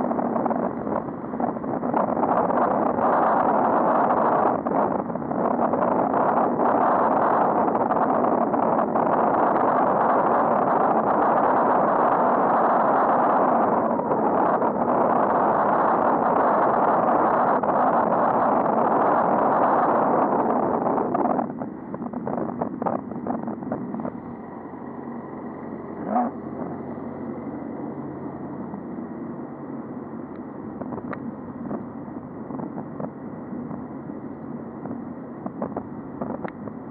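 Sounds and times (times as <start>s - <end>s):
traffic: 0.0s - 36.9s.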